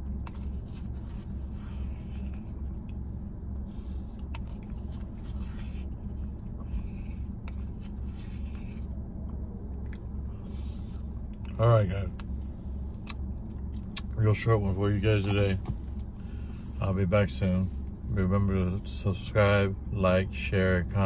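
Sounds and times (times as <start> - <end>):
car interior hum: 0.0 - 21.0.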